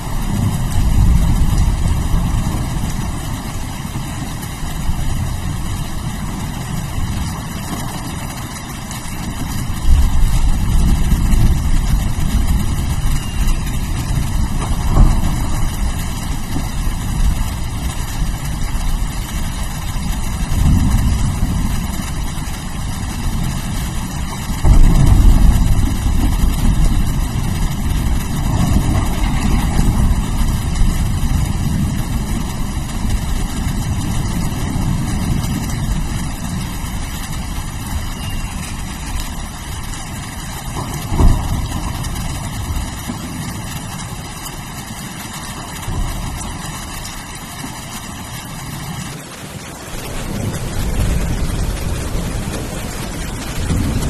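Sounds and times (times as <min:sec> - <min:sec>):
low rolling thunder: 0:00.0 - 0:54.0
steady rain: 0:00.0 - 0:54.0.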